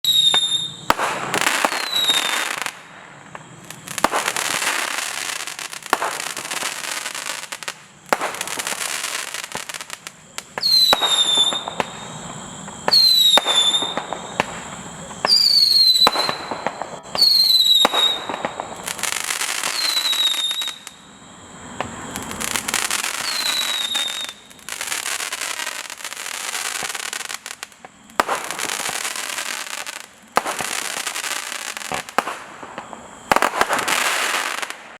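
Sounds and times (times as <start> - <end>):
firework crackling: 0.0 - 34.9
firework whistle: 0.0 - 34.9.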